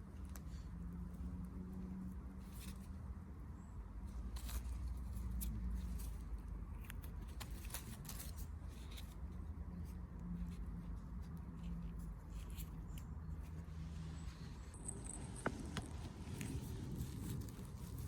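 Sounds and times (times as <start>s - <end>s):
leaves and twigs rustling underfoot: 0.0s - 18.0s.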